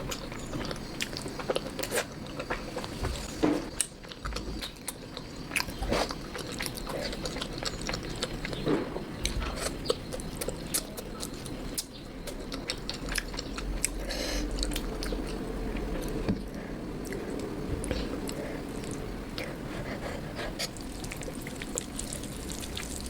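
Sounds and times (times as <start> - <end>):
chewing and biting food: 0.0 - 23.0.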